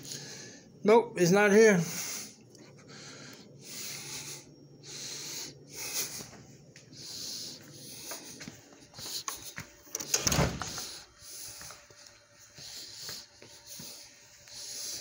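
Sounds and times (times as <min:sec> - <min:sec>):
man breathing heavily: 0:00.0 - 0:00.8, 0:01.7 - 0:15.0.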